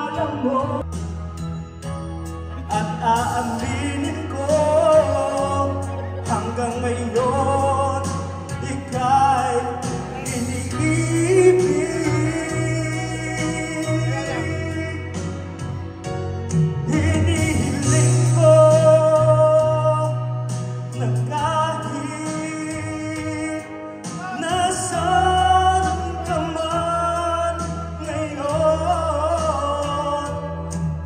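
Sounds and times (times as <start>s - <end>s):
man singing into microphone: 0.0s - 0.9s, 2.6s - 15.8s, 16.7s - 31.0s
instrumental backing music: 0.0s - 31.0s.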